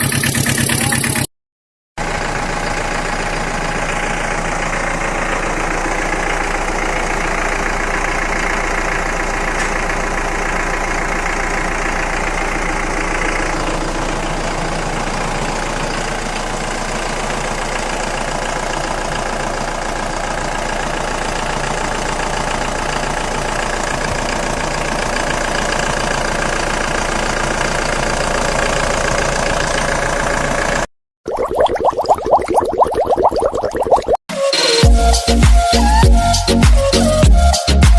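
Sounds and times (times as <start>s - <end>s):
vehicle engine idling: 0.0s - 1.3s, 2.0s - 30.9s, 34.9s - 37.8s.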